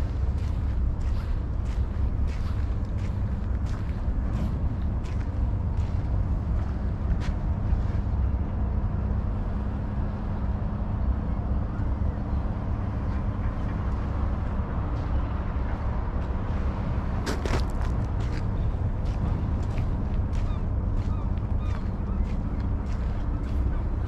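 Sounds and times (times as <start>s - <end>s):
faint hum: 0.0s - 24.0s
low engine rumble: 0.0s - 24.0s.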